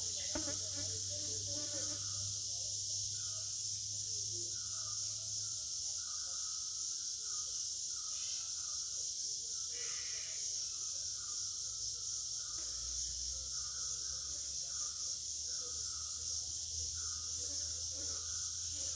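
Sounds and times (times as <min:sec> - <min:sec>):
insects chorus: 0:00.0 - 0:18.9.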